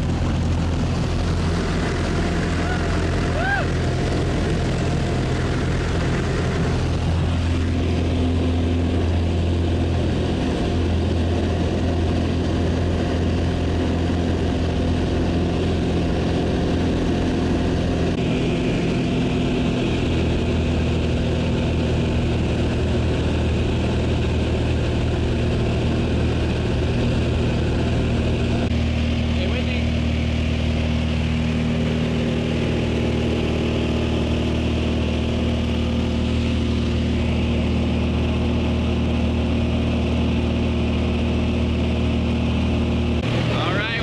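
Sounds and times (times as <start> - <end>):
propeller plane engine droning: 0.0 - 44.0.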